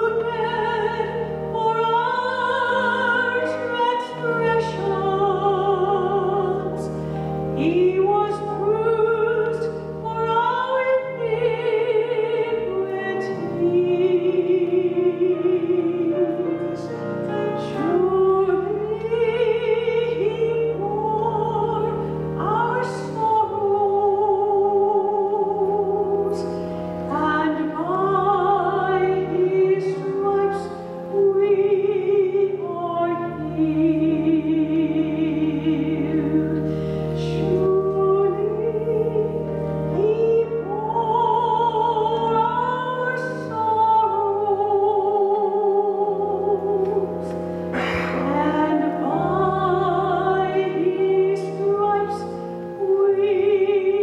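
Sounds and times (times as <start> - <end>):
woman singing into microphone: 0.0 - 6.9, 7.5 - 54.0
instrumental accompaniment: 0.0 - 54.0.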